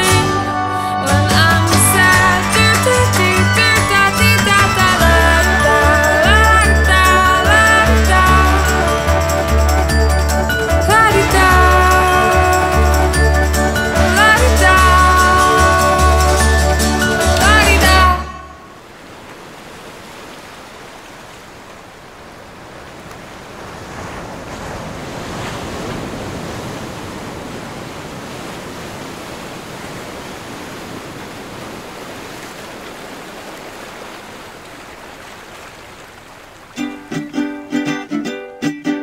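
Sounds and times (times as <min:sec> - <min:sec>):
ocean surf on beach: 0:00.0 - 0:38.1.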